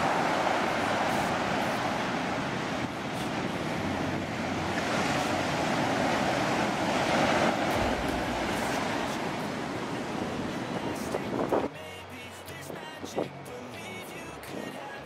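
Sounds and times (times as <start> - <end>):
waves washing over sand: 0.0 - 15.0.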